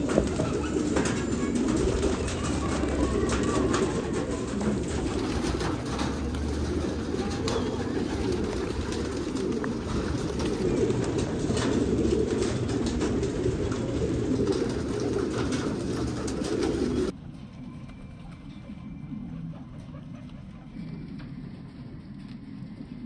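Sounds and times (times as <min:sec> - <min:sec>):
pigeons cooing: 0:00.0 - 0:17.1, 0:18.2 - 0:23.0.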